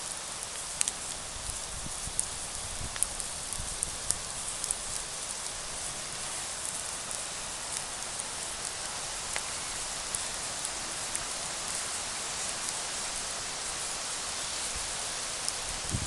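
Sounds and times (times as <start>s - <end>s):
campfire hissing and crackling: 0.0s - 16.0s.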